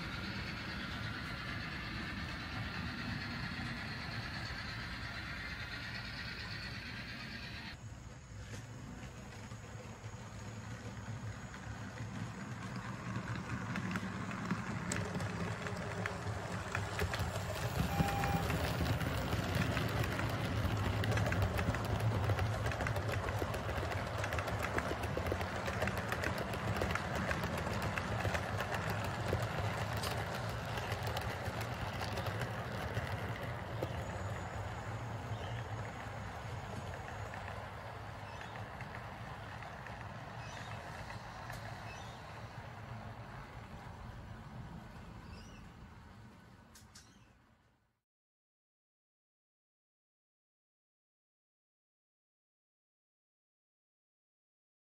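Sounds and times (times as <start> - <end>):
rapid clicking of wheels: 0.0 - 45.6
model train wheels rumbling on rail: 0.0 - 46.8.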